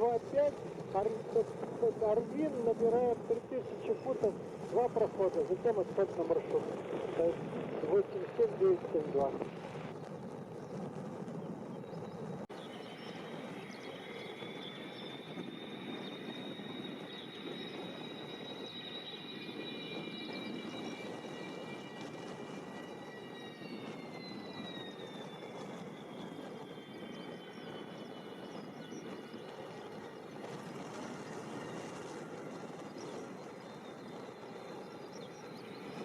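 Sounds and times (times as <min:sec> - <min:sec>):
jet engines roaring past: 0:00.0 - 0:36.0.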